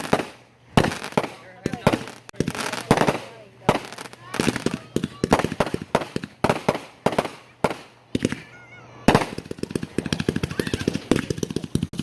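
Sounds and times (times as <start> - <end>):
fireworks bangs and crackle: 0.0 - 8.5, 9.1 - 12.0.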